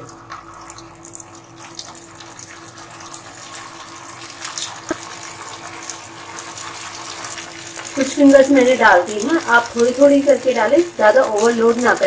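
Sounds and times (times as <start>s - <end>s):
food sizzling in frying oil: 0.0s - 12.0s.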